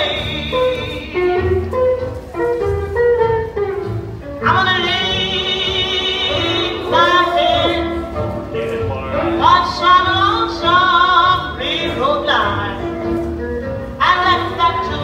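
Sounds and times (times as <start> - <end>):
blues music: 0.0 - 15.0.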